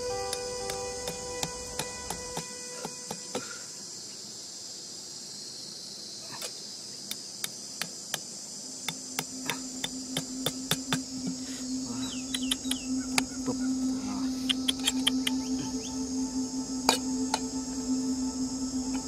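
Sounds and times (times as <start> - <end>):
low steady hum: 0.0 - 3.9, 7.6 - 19.0
insects chirring: 0.0 - 19.0.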